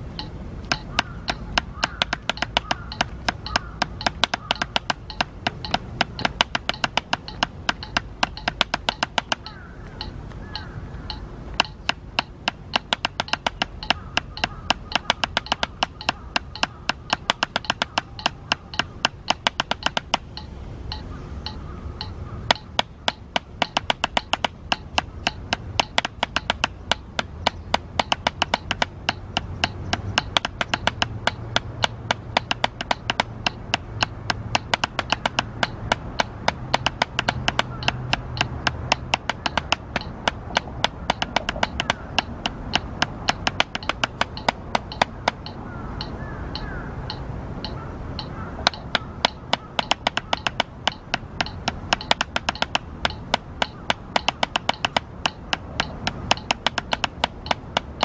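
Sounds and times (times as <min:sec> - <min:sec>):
drumsticks tapping practice pad: 0:00.0 - 0:58.0.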